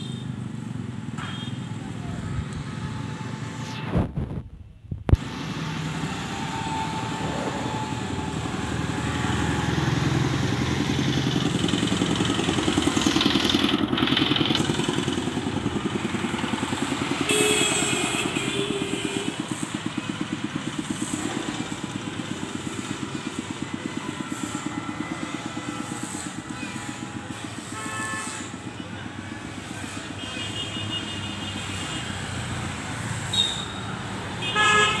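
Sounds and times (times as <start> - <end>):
vehicles passing: 0.0 - 35.0
engine throb: 1.8 - 30.2.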